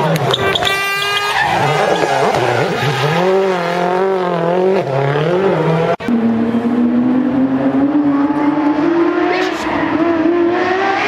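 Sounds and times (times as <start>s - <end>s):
car engine accelerating: 0.0s - 11.0s
rally car engine revving: 0.0s - 11.0s.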